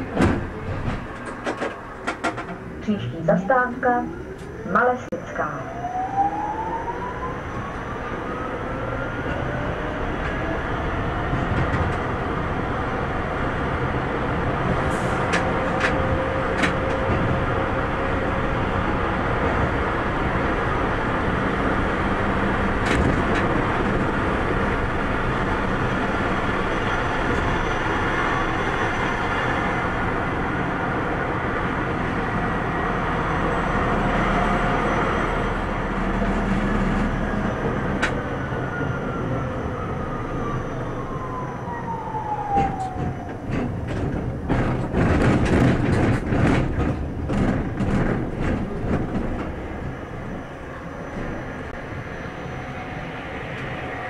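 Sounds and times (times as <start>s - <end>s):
tram motor whine: 0.0s - 54.0s
wheel-on-rail rumble: 9.3s - 54.0s.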